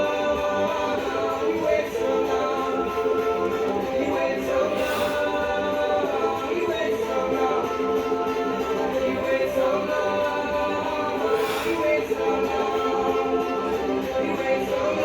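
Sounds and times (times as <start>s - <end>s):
song with sung vocals and harmonies: 0.0s - 15.0s.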